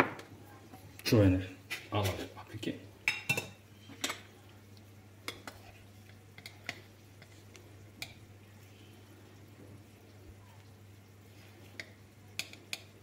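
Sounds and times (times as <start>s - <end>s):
low steady hum: 0.2s - 13.0s.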